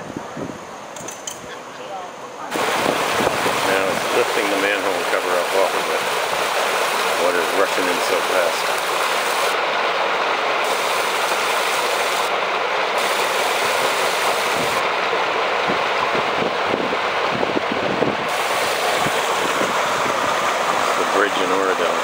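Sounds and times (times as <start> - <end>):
floodwater rushing from manhole: 2.5 - 22.0.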